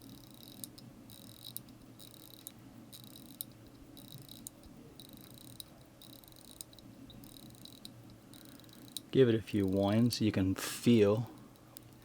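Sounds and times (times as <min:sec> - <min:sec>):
watch winding ratchet clicking: 0:00.0 - 0:09.8.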